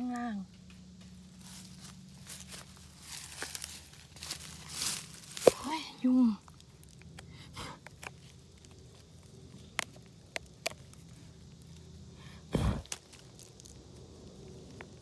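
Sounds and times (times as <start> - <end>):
mushrooms handled with clicks and rustles: 0.0 - 15.0.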